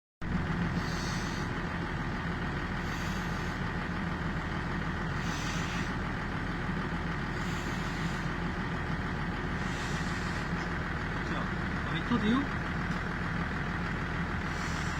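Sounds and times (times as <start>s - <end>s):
large engine idling: 0.2s - 14.9s.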